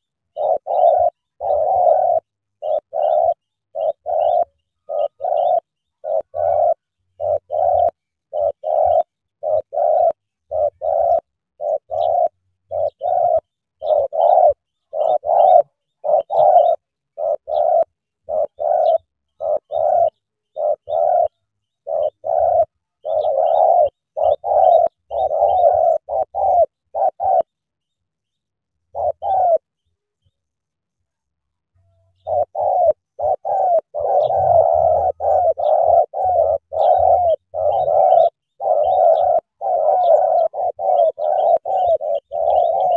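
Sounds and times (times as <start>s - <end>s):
dove cooing: 0.0s - 27.6s, 28.8s - 29.7s, 32.2s - 42.9s
small birds chirping: 0.0s - 42.9s.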